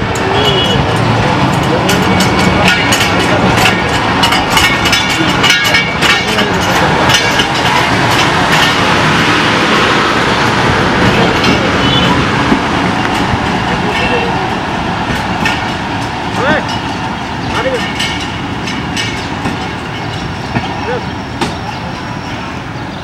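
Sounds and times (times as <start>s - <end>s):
train clicks and clanks: 0.0s - 23.0s
train wheels rumbling on track: 0.0s - 23.0s.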